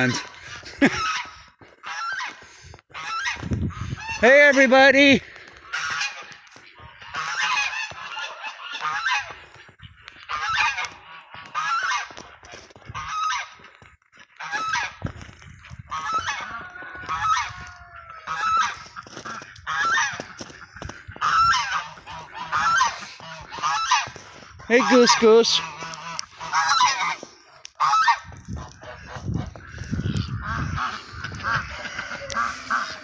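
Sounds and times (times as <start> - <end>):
geese honking: 0.0 - 13.6, 14.3 - 15.0, 15.9 - 33.0.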